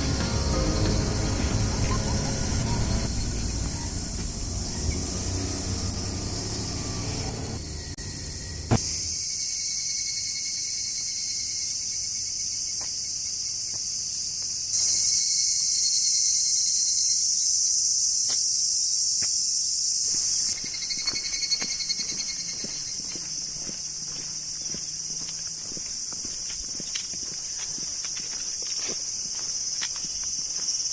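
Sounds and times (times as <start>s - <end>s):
insects shrilling: 0.0s - 30.9s.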